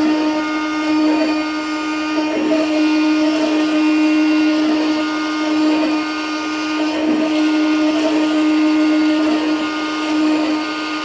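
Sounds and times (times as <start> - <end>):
cnc router spindle whine: 0.0 - 11.0.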